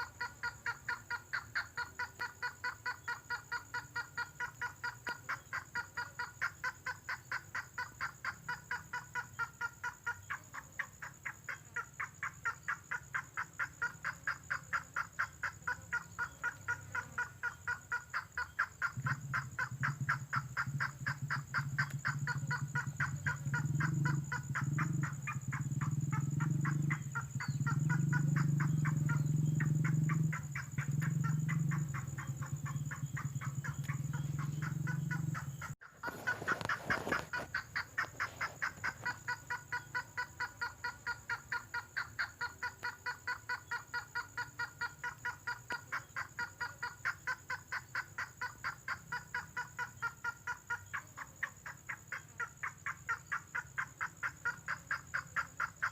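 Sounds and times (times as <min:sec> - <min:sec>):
bird call with repeated notes: 0:00.0 - 0:55.9.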